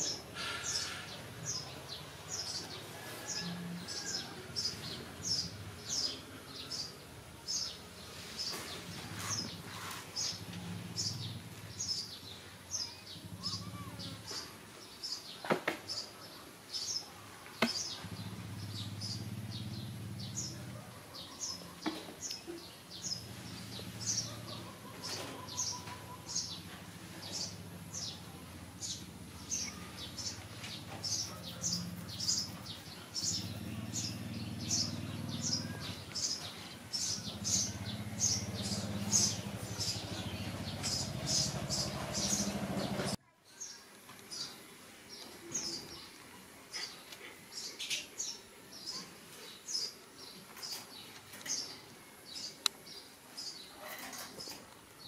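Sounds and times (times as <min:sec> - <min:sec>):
bird chirping: 0:00.0 - 0:54.7.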